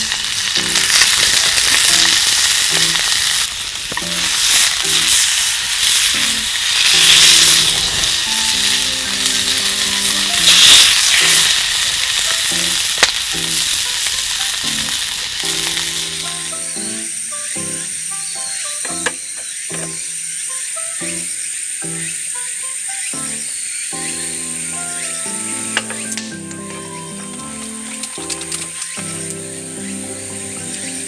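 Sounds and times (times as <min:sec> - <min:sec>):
food sizzling in a pan: 0:00.0 - 0:31.0
soft background music: 0:00.0 - 0:31.0.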